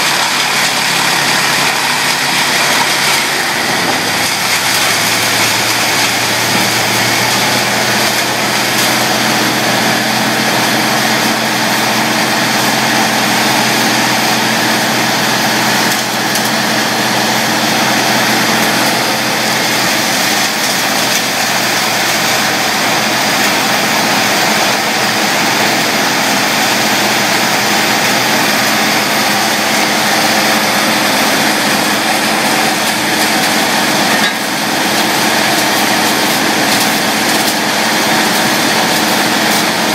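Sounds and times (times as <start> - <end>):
brush chipper engine running: 0.0 - 39.9.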